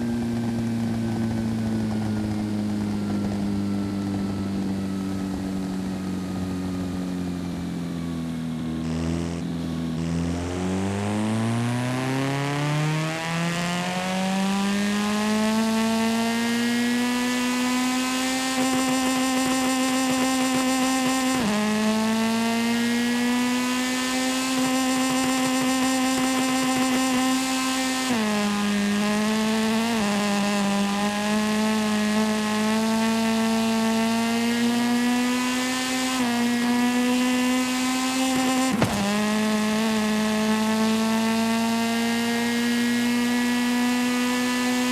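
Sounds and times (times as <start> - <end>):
video game car engine accelerating: 0.0 - 44.9.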